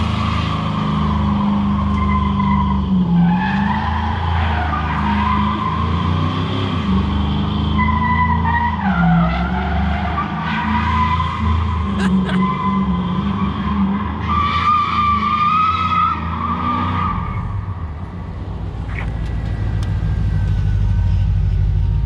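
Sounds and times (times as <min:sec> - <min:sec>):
tires squealing: 0:00.0 - 0:18.2.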